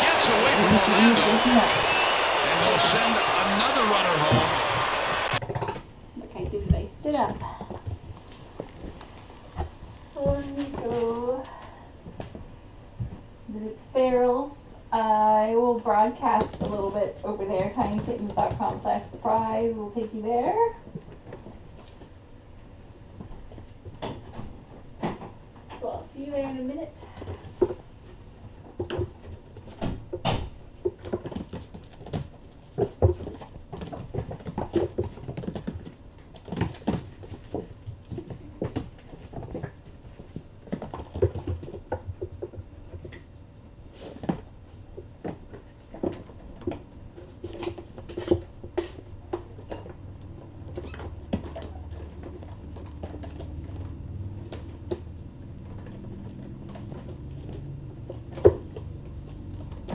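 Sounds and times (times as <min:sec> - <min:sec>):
kittens thumping and scuffling: 0:05.4 - 0:13.4, 0:15.9 - 0:59.9.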